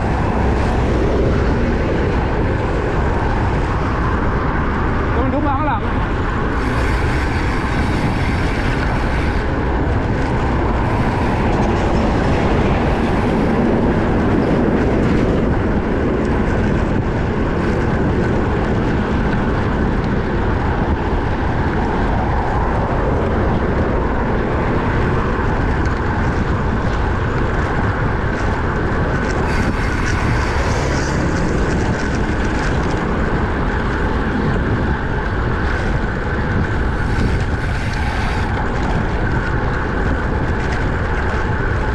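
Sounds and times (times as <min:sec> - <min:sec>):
bike tyre noise: 0:00.0 - 0:41.9
wind buffeting microphone: 0:00.0 - 0:41.9.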